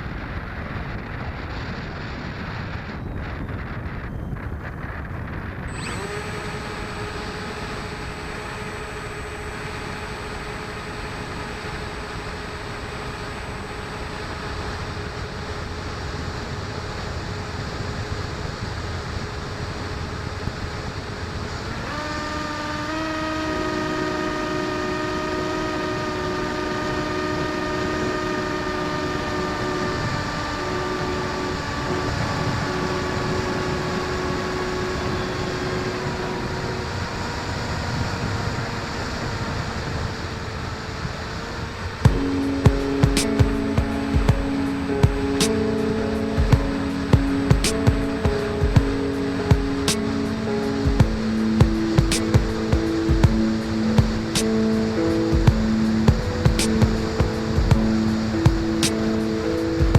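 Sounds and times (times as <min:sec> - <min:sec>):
electric motor and propeller whining: 0:00.0 - 0:59.9
wind on microphone: 0:00.0 - 0:59.9.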